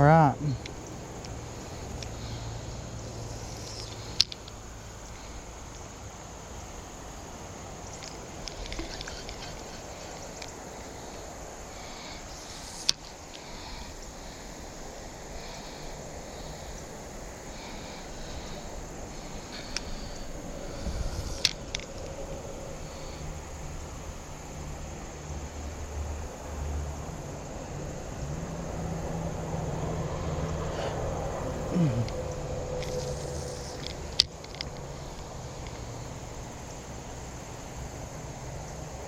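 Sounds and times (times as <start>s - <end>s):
creek ambience: 0.0s - 39.0s.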